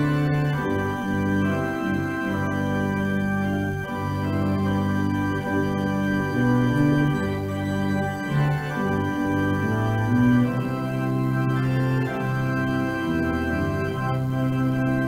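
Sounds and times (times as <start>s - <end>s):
organ playing chords: 0.0s - 15.0s.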